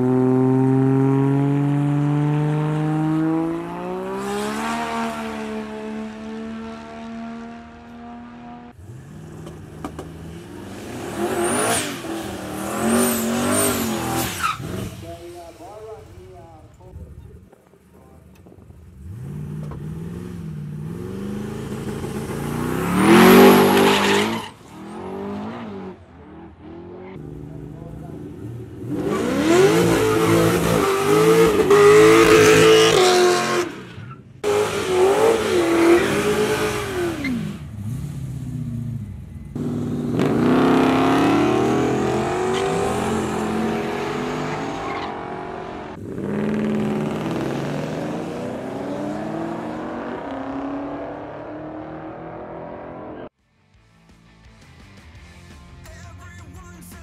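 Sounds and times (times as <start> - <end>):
drag cars accelerating: 0.0 - 15.1, 18.2 - 53.3.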